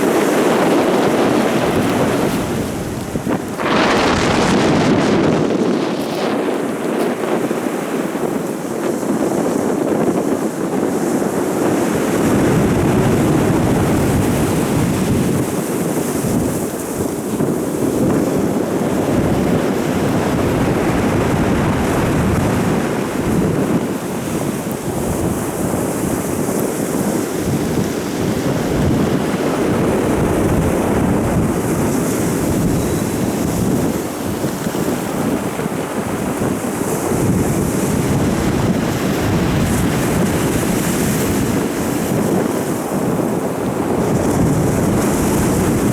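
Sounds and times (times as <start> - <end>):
sea surf crashing: 0.0 - 45.9
wind buffeting microphone: 0.0 - 45.9.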